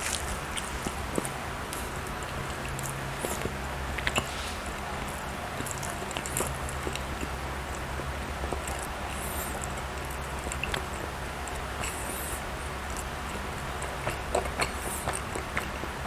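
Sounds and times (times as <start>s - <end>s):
chewing soft food: 0.0s - 16.0s.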